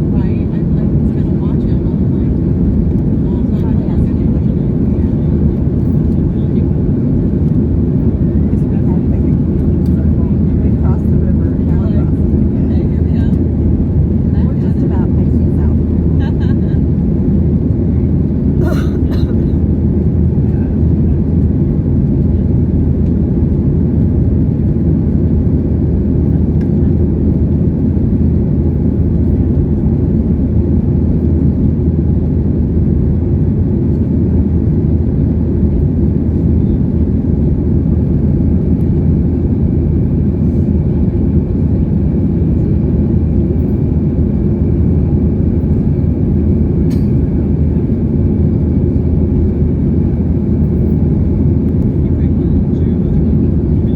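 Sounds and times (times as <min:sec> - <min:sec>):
jet engine rumble in cabin: 0:00.0 - 0:53.9.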